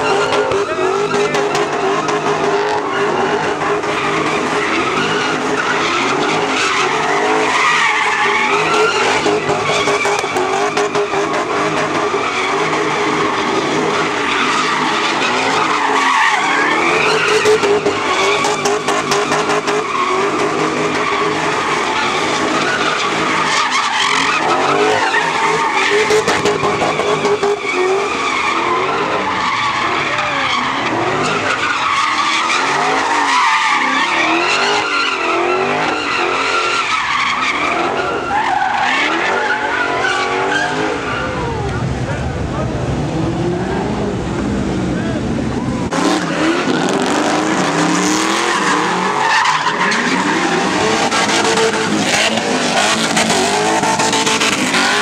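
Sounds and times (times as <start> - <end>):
tyres squealing: 0.0 - 41.8, 45.0 - 55.0
car engines revving: 0.0 - 55.0.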